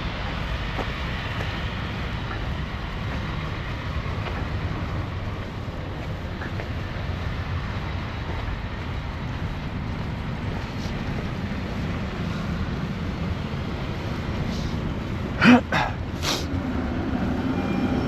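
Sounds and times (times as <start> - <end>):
strong snowstorm wind: 0.0 - 18.0.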